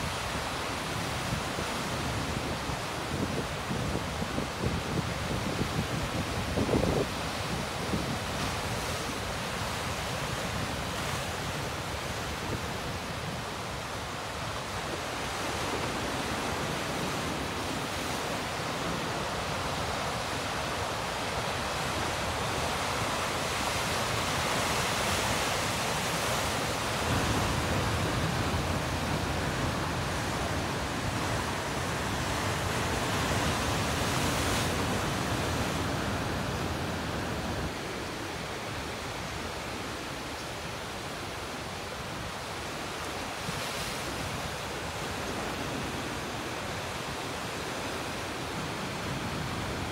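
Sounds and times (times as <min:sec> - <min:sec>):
ocean waves breaking over rocks: 0:00.0 - 0:49.9.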